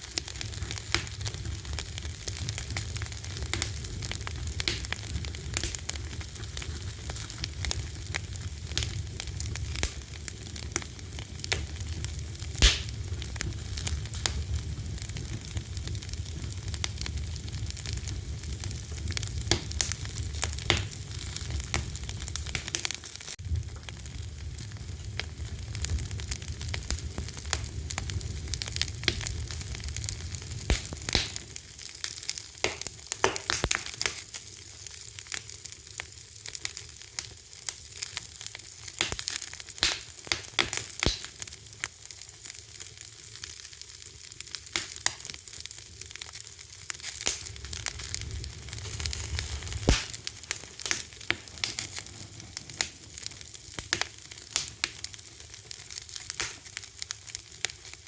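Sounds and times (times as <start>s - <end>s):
fire crackling and popping: 0.0s - 58.0s
steady hiss of fire: 0.0s - 58.0s.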